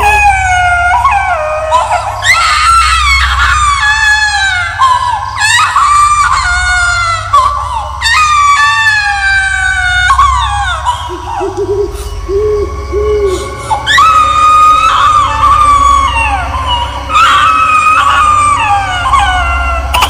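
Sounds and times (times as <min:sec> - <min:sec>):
shrill ghostly screams: 0:00.0 - 0:11.5, 0:12.1 - 0:20.0
steady low drone: 0:00.0 - 0:20.0.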